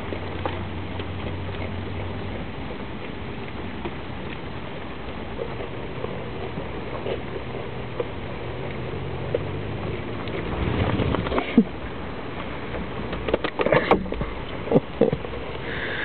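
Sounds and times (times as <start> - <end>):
goat chewing wet grass: 0.0 - 16.0.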